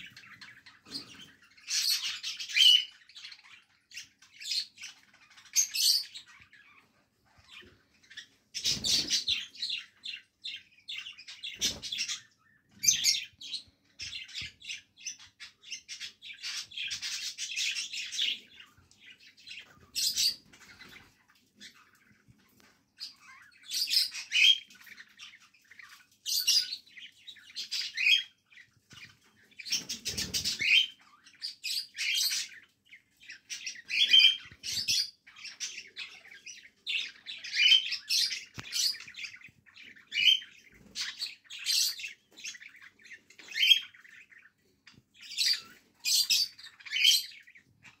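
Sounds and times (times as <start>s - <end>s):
cockatiel chicks calling: 0.0s - 48.0s.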